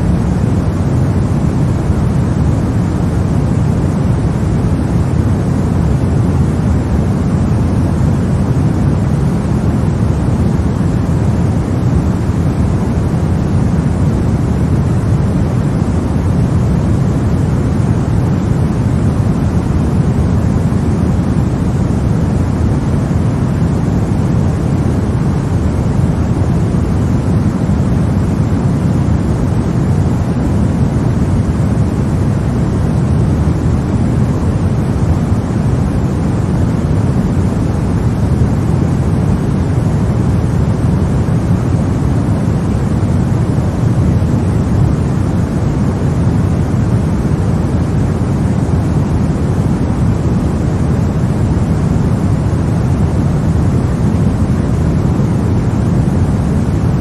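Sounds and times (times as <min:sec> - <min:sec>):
deep rushing white noise: 0:00.0 - 0:57.0.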